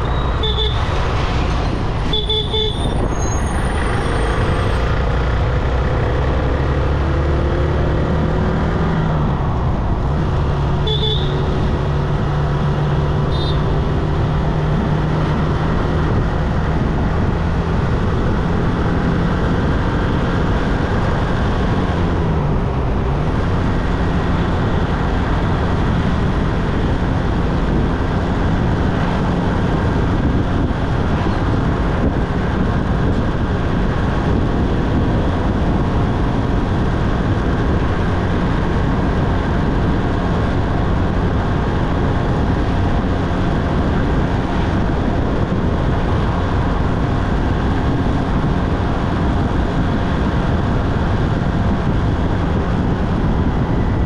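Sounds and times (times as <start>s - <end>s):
motorcycle riding at speed: 0.0s - 54.0s.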